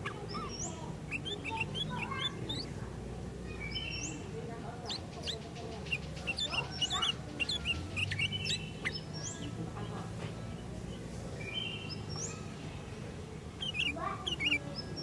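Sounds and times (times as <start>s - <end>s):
bulbuls chirping and whistling: 0.0s - 2.8s, 3.5s - 9.6s, 10.9s - 12.5s, 13.5s - 15.0s.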